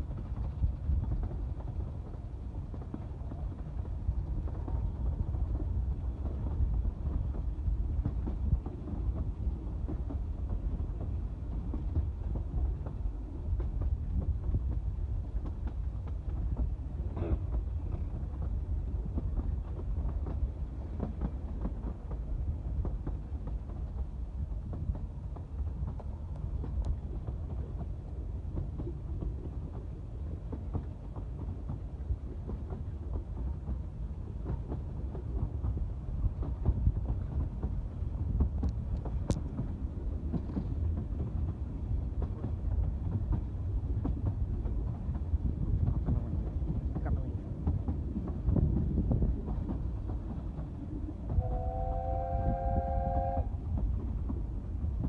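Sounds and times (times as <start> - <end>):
train carriage rumbling: 0.0 - 55.0.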